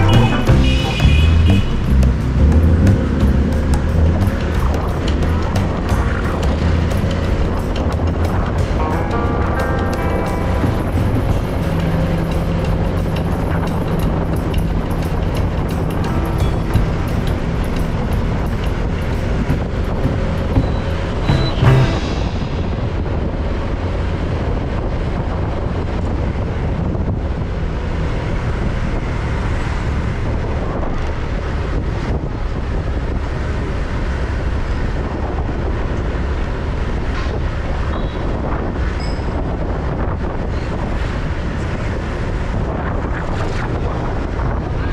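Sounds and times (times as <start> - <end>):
road noise: 0.0 - 44.9
wind rumble on microphone: 1.0 - 44.9.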